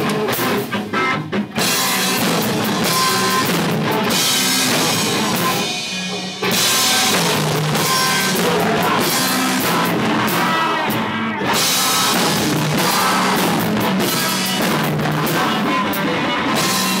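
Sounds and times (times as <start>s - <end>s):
distorted electric guitar: 0.0s - 17.0s
rock band playing: 0.0s - 17.0s.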